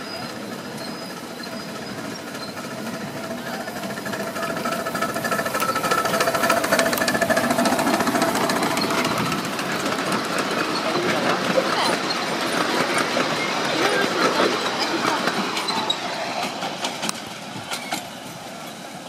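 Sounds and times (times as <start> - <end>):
miniature train clattering: 0.0 - 19.0
wheel clicks: 2.3 - 18.0.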